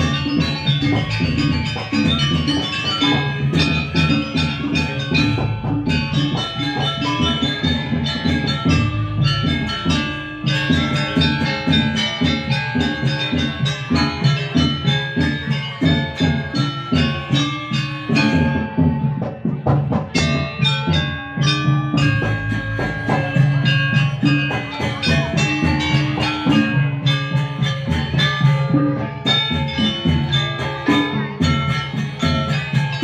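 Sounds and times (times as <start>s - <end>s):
drum strokes: 0.0s - 33.0s
struck ringing metal notes: 0.0s - 33.0s.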